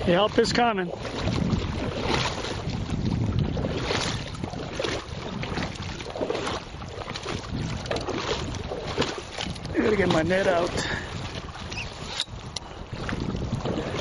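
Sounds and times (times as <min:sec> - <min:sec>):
river water rushing and splashing: 0:00.0 - 0:14.0
wind buffeting microphone: 0:00.0 - 0:14.0.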